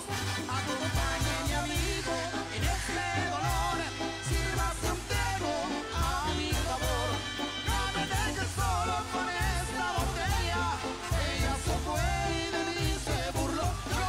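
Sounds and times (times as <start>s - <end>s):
brass band playing: 0.0s - 14.0s
pulsing bass beat: 0.9s - 5.4s, 6.0s - 14.0s.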